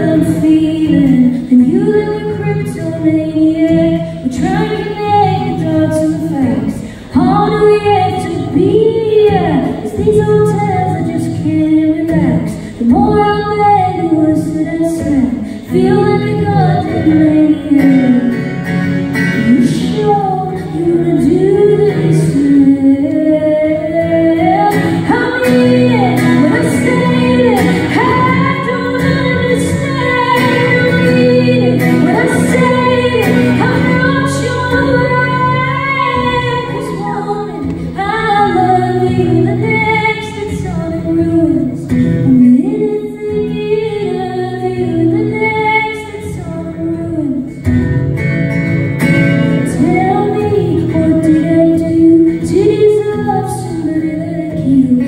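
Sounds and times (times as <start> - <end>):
acoustic guitar: 0.0 - 55.0
woman singing into a microphone: 0.0 - 55.0.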